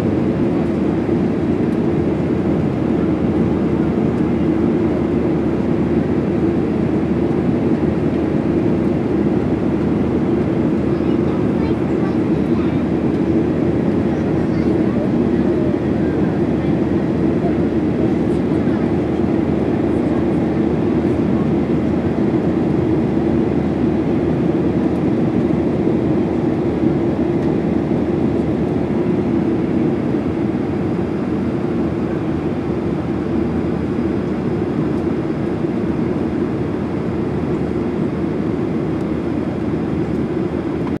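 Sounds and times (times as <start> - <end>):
airplane cabin engine hum: 0.0 - 41.0.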